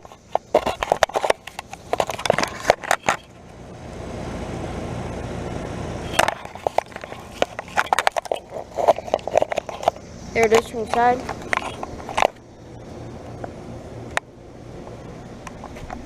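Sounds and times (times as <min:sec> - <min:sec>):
air conditioner unit rushing: 0:00.0 - 0:16.0.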